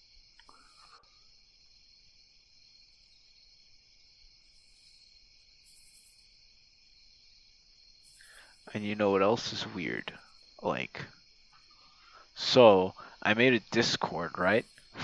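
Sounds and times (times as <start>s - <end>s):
crickets trilling: 0.0s - 15.0s
high-pitched insect trills: 0.0s - 15.0s.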